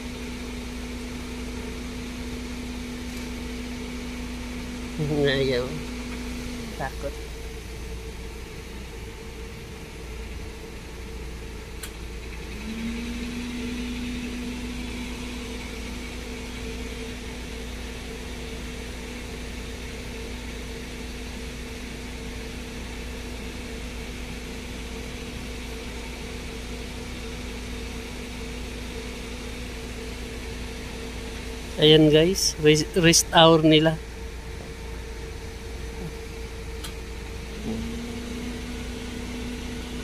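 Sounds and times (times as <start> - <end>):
constant tone: 0.0 - 40.0
low mechanical drone: 0.0 - 40.0.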